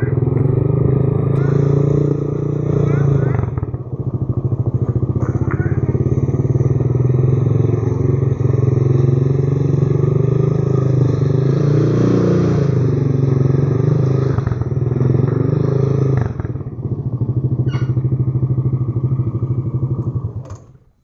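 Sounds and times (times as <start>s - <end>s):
vehicle engine pulsing: 0.0s - 21.0s.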